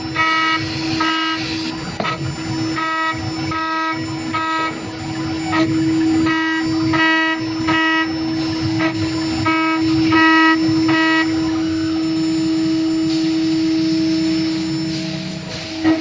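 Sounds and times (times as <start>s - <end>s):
cutter squealing on metal: 0.0s - 16.0s
router spindle whining: 0.0s - 16.0s.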